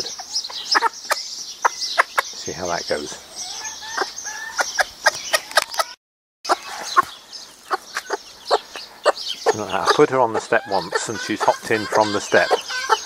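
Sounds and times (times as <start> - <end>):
chicks cheeping: 0.0 - 13.0
hen clucking: 0.0 - 13.0.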